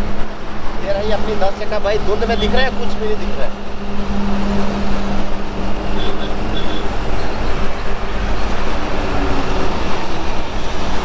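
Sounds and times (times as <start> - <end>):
road rumble: 0.0 - 11.0.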